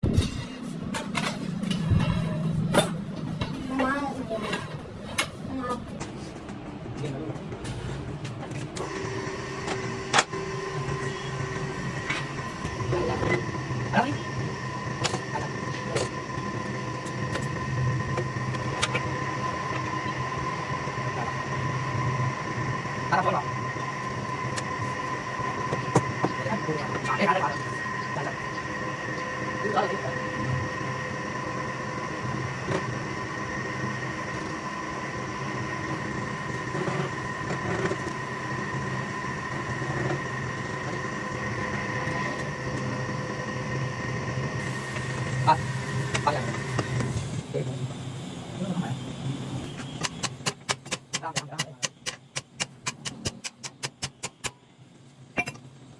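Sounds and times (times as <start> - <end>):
lathe humming and whining: 0.2 - 50.8.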